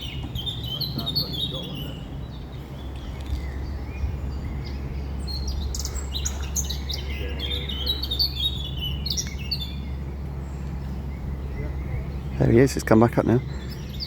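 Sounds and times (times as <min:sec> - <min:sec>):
low rumble: 0:00.0 - 0:14.0
songbirds chirping and singing: 0:00.0 - 0:14.0.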